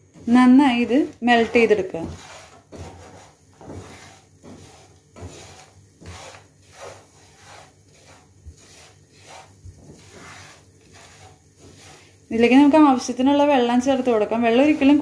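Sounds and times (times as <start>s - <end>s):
wooden spatula scraping a pan: 0.0s - 15.0s.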